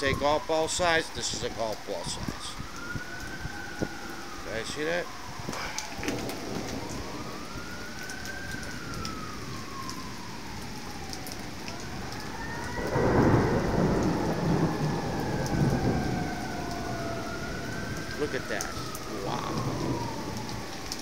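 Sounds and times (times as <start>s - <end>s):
emergency siren wailing: 0.0s - 21.0s
heavy rain and hail: 0.0s - 21.0s
thunder rumbling: 0.0s - 21.0s.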